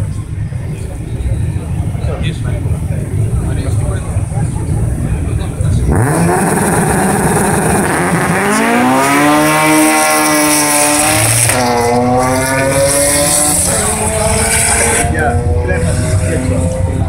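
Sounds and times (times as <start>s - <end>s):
cars accelerating at full throttle: 0.0s - 17.0s
race car engines revving: 0.0s - 17.0s.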